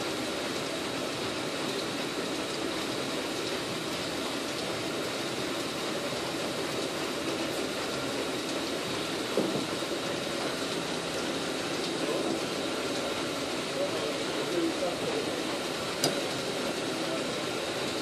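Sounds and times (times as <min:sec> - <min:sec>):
water-powered grinding machinery: 0:00.0 - 0:18.0.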